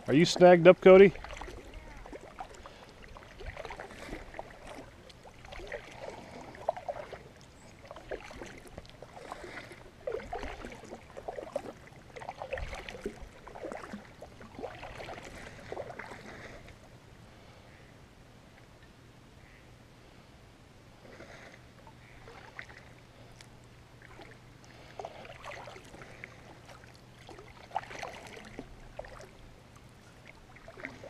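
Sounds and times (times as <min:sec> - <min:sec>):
water lapping against kayak hull: 0:00.0 - 0:17.6, 0:21.0 - 0:31.0.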